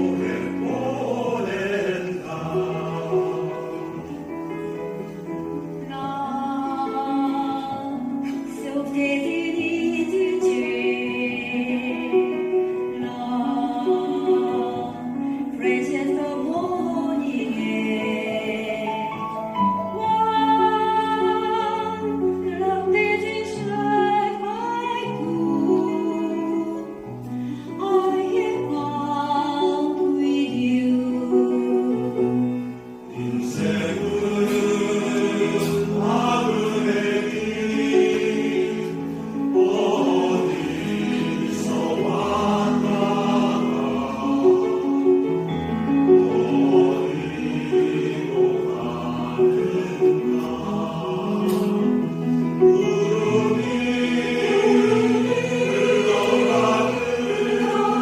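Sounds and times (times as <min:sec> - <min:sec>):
mixed choir singing: 0:00.0 - 0:27.1, 0:27.7 - 0:58.0
piano accompaniment: 0:00.0 - 0:58.0.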